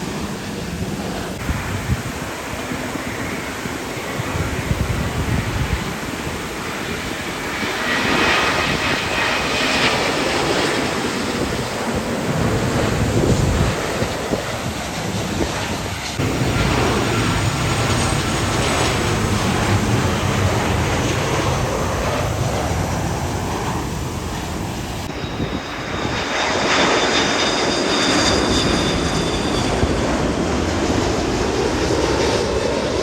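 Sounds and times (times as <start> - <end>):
airplane engines roaring: 0.0 - 33.0.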